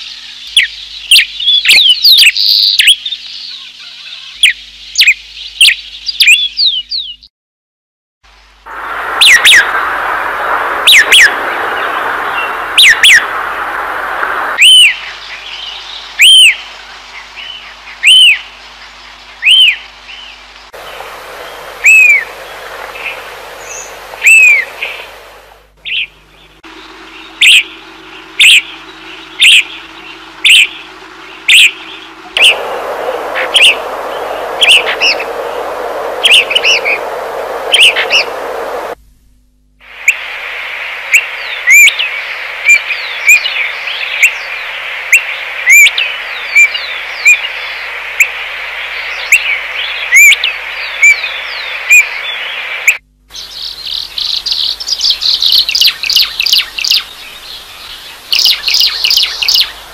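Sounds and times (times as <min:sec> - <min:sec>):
songbirds whistling: 0:00.0 - 0:07.3, 0:08.7 - 0:39.0, 0:41.1 - 0:59.9
background hiss: 0:08.3 - 0:39.0, 0:39.8 - 0:59.9.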